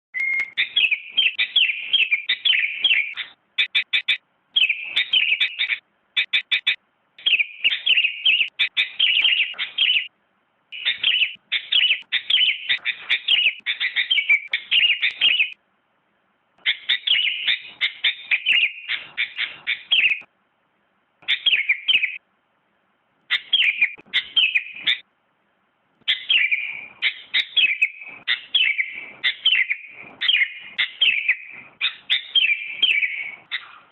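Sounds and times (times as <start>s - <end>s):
bird chirping song: 0.1s - 15.6s, 16.6s - 20.3s, 21.2s - 22.2s, 23.3s - 25.1s, 26.0s - 33.9s.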